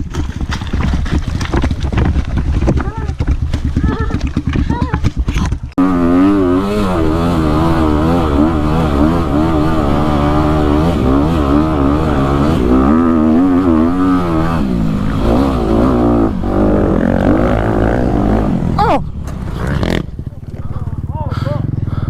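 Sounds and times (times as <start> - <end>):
dirt bike engine revving: 3.4 - 22.0.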